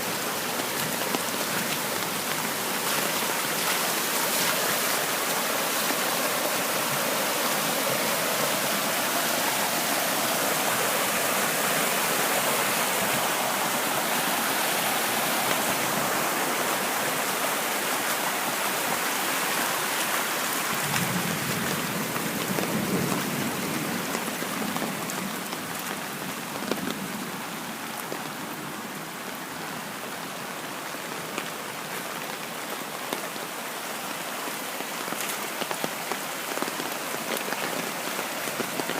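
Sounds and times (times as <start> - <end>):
heavy rain downpour: 0.0 - 38.9
rushing storm-water runoff: 0.0 - 38.9.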